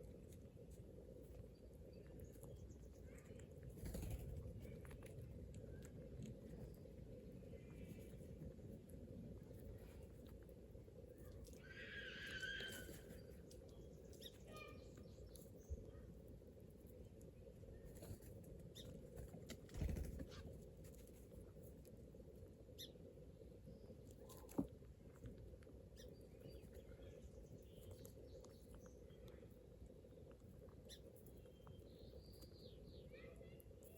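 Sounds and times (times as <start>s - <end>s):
squirrels rustling while foraging: 0.0s - 33.9s.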